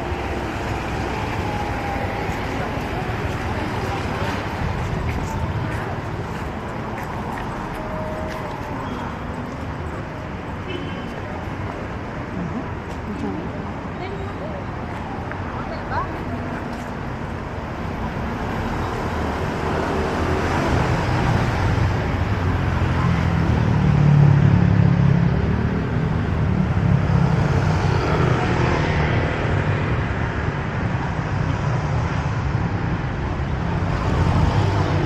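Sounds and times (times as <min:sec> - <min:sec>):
vehicle engines passing: 0:00.0 - 0:35.0.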